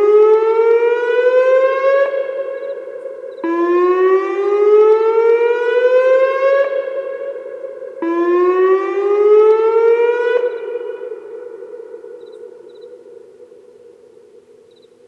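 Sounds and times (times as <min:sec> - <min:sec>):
warning siren whoop sweeps: 0:00.0 - 0:12.7.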